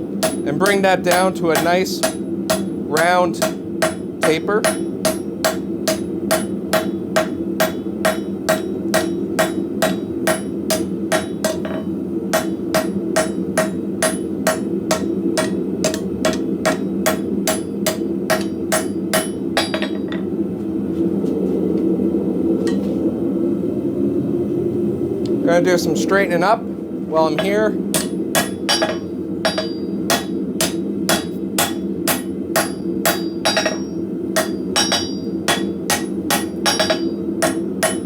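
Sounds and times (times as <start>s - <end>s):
hammer striking hot steel on anvil: 0.1s - 20.3s, 27.4s - 38.0s.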